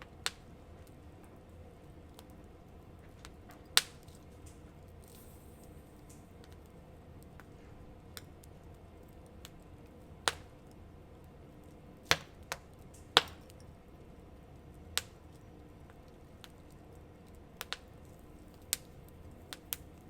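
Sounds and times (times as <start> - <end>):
low steady background noise: 0.0 - 20.0
wood fire crackling: 0.0 - 20.0.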